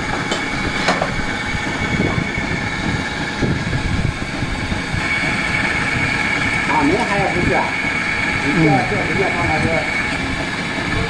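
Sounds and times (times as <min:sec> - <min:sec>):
machinery humming with high whine: 0:00.0 - 0:11.0.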